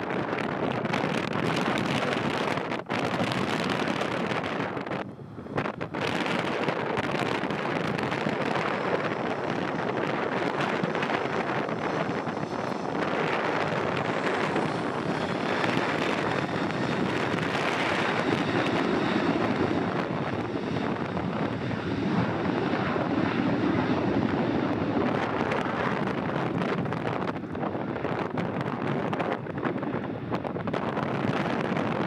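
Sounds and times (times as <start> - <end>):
jet engines running: 0.0 - 32.0
wind buffeting microphone: 0.0 - 32.0.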